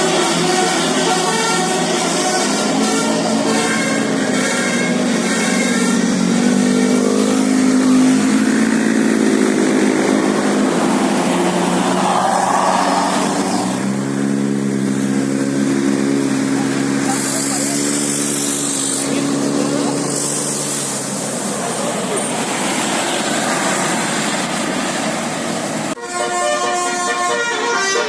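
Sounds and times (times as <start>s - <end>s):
bus engine accelerating: 0.0s - 27.9s.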